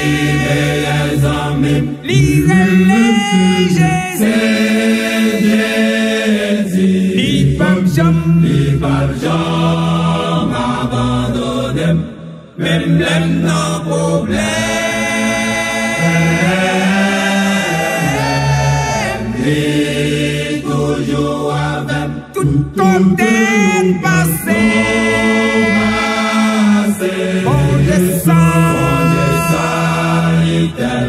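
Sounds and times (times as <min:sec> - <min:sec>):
men's choir singing a hymn: 0:00.0 - 0:31.0.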